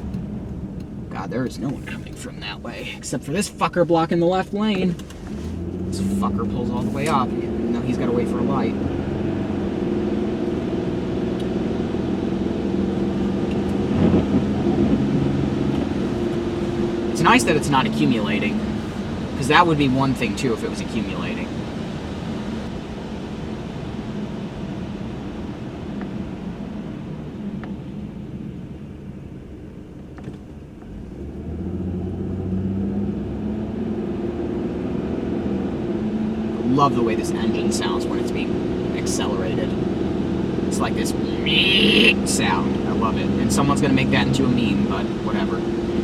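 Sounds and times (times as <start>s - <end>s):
car engine hum inside cabin: 0.0s - 46.0s
road noise: 0.0s - 46.0s.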